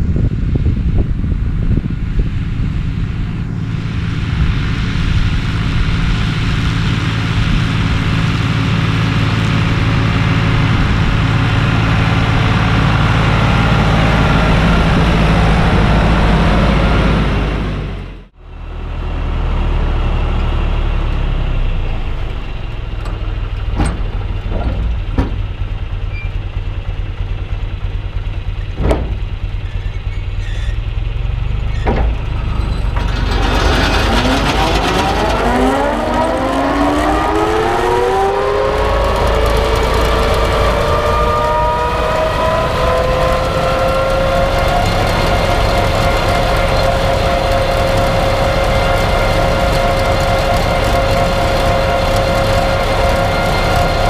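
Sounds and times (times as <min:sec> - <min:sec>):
tractor engine and mower running: 0:00.0 - 0:54.0.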